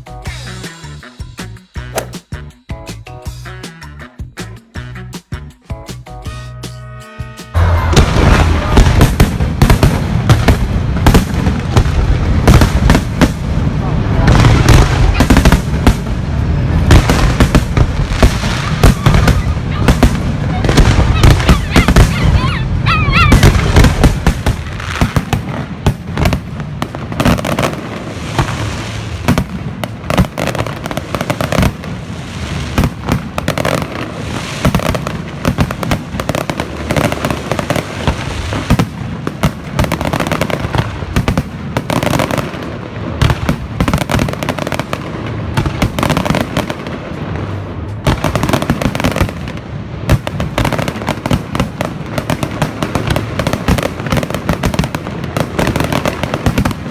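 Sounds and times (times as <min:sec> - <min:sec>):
fireworks bursting and crackling: 0:00.0 - 0:02.4, 0:07.6 - 0:56.9.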